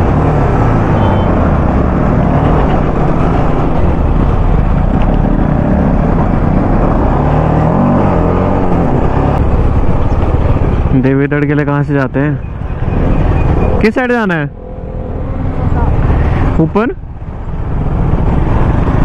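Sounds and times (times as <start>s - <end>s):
motorcycle engine riding: 0.0s - 19.0s
road and wind noise: 0.0s - 19.0s.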